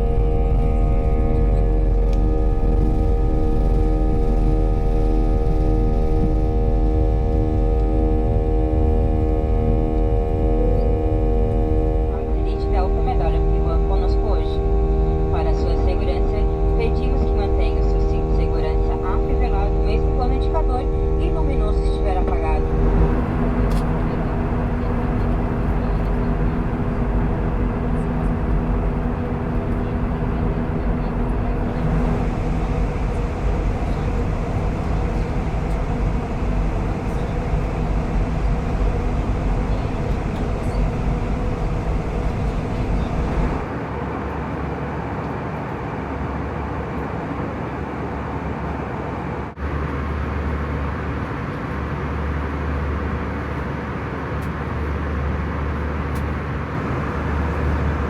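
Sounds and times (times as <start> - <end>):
low hum: 0.0 - 47.1, 48.0 - 58.0
airplane cabin engine roar: 0.0 - 58.0.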